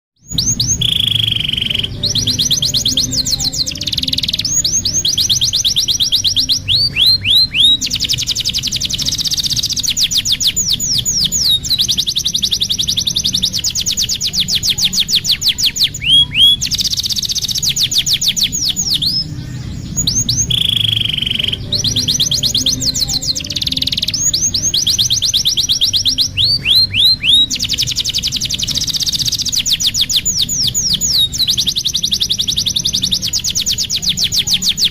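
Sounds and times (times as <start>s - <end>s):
canary singing trills: 0.2s - 34.9s
faint low hum: 0.2s - 34.9s.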